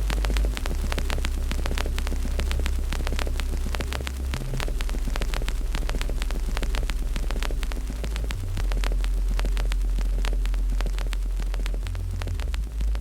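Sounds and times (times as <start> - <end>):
deep rumble: 0.0 - 13.0
wood fire crackling: 0.0 - 13.0.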